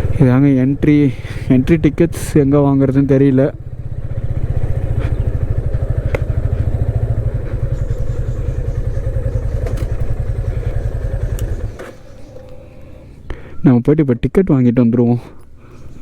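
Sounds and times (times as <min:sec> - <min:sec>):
motorcycle engine idling: 0:00.0 - 0:13.6.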